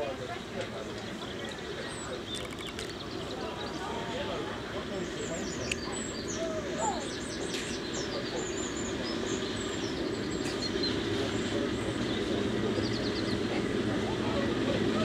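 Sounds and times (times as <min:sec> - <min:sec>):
diesel locomotive engine drone: 0:00.0 - 0:15.0
birds chirping: 0:01.0 - 0:13.8.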